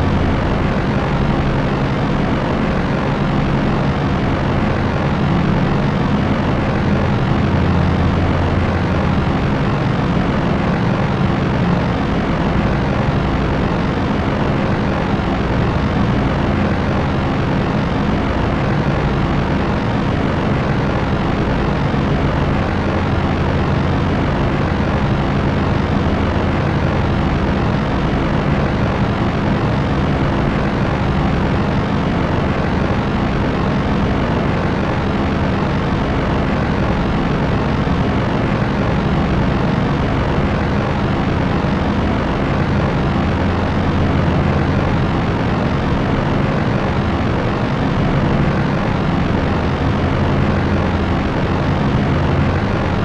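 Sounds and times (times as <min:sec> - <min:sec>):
propeller aircraft engines droning: 0:00.0 - 0:53.0.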